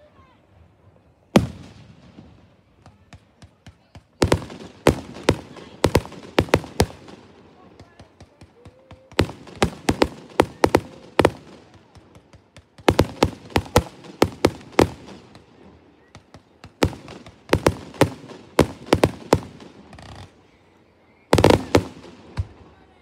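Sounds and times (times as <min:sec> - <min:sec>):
fireworks bursting with bangs and pops: 0:01.2 - 0:23.0.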